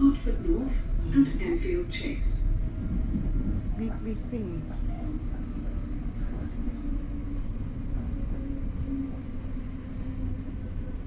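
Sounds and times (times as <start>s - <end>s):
train rumble from inside carriage: 0.0s - 11.0s.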